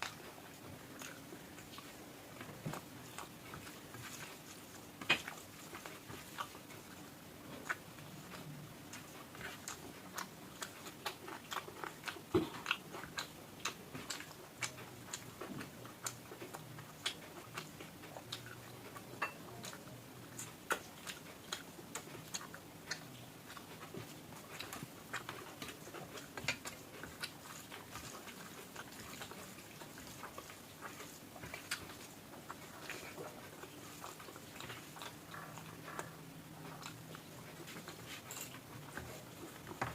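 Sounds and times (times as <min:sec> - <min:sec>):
person chewing with mouth clicks: 0:00.0 - 0:39.9.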